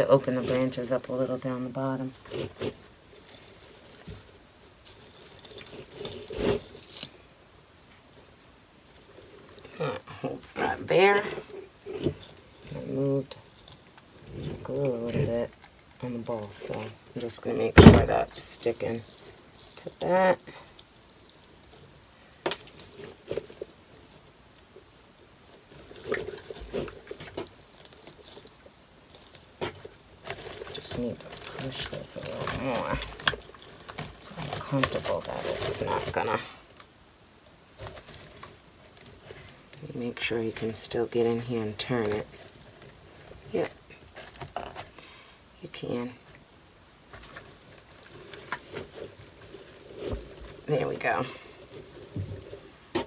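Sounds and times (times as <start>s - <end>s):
artificial pine branches rustling: 0.0s - 53.0s.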